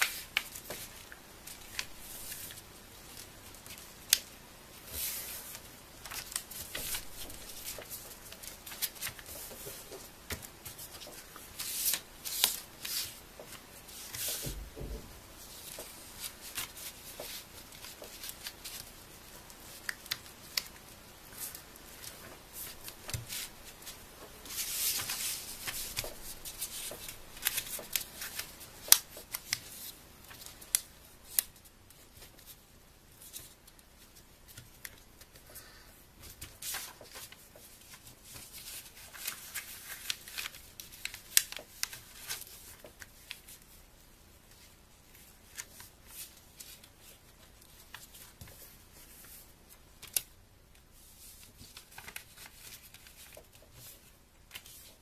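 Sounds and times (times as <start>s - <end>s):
paper being folded and creased: 0.0s - 32.6s, 36.2s - 43.7s, 44.5s - 50.3s, 51.0s - 55.0s.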